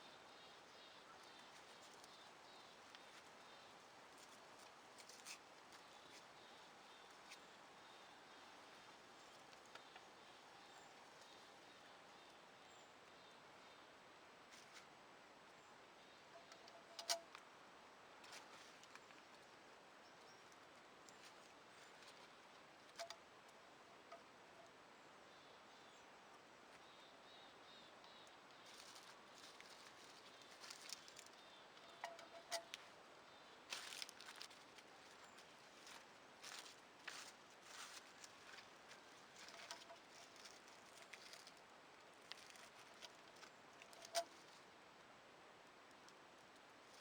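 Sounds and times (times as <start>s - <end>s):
faint forest ambience: 0.0s - 47.0s.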